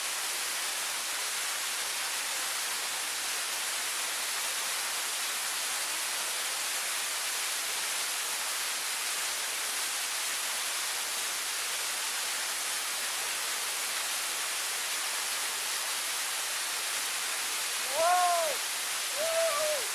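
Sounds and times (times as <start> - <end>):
waterfall rushing: 0.1 - 19.9.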